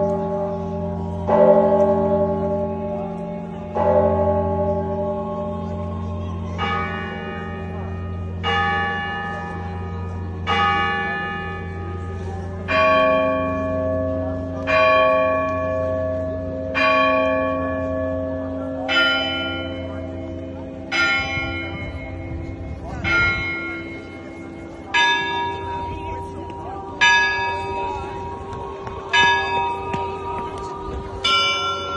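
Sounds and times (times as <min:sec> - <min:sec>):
church bell strokes: 0:00.0 - 0:31.9
low hum of large bells: 0:00.0 - 0:31.9.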